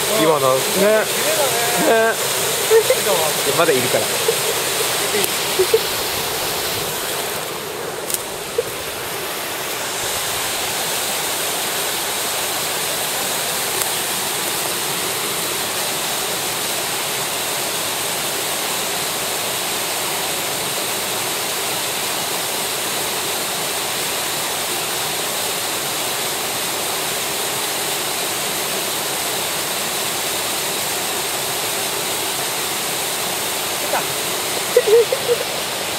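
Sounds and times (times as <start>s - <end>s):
mountain stream rushing: 0.0s - 35.9s.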